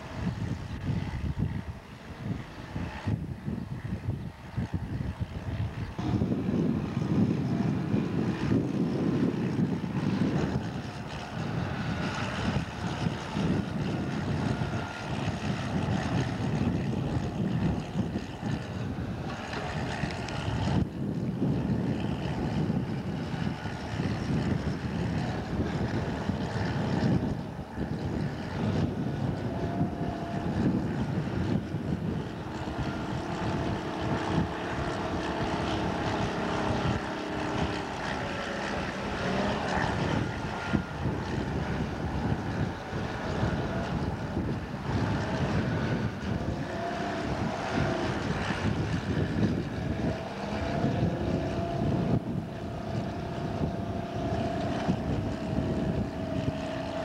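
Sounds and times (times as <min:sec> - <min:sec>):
wind on microphone: 0:00.0 - 0:57.0
diesel engine running: 0:06.0 - 0:57.0.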